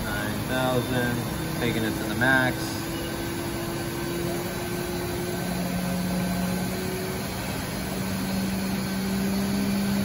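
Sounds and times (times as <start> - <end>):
machine spindle spinning up: 0.0 - 10.0.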